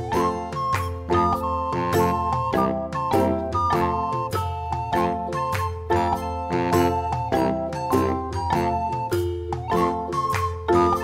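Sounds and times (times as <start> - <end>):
light background music: 0.0 - 11.0.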